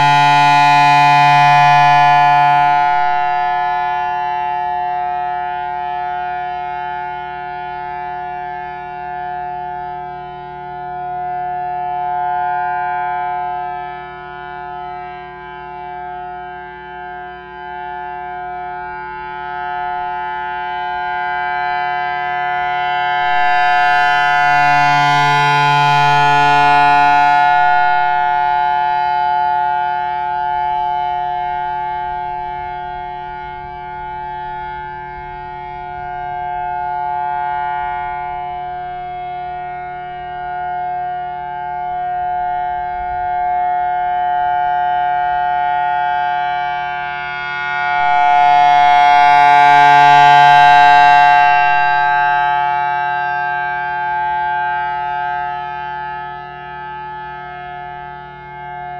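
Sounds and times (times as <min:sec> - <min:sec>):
warning siren steady tone: 0:00.0 - 0:58.9.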